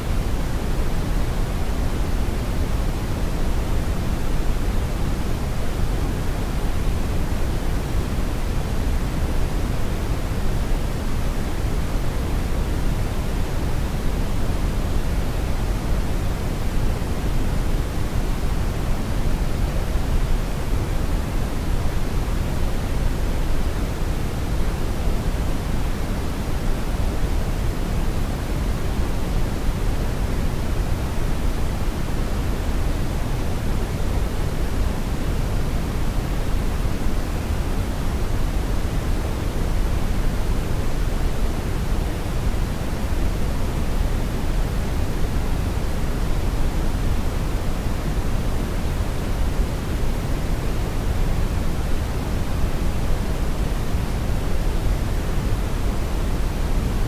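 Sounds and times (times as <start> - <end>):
brown noise hiss: 0.0 - 57.0.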